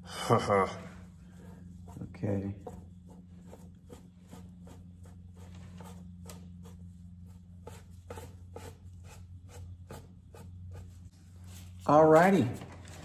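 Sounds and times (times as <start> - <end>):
steady low hum: 0.0 - 13.0
sponge scratching latex mask: 0.6 - 13.0.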